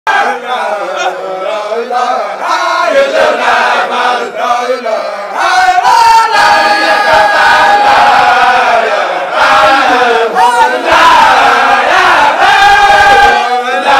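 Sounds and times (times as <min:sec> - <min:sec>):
group of voices chanting: 0:00.1 - 0:13.9.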